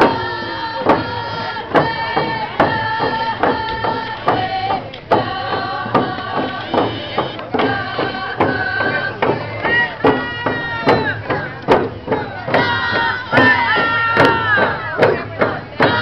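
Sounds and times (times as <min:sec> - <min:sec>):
group singing a chant: 0:00.0 - 0:16.0
hand drums beating: 0:00.0 - 0:16.0.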